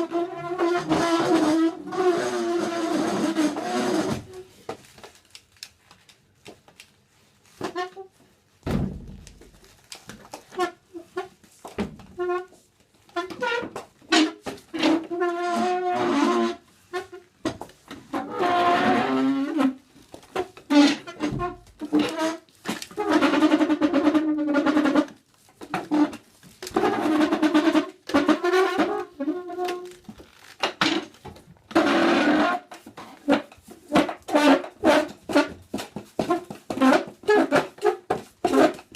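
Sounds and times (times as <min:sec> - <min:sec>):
chair legs scraping floor: 0:00.0 - 0:04.8, 0:10.6 - 0:38.9.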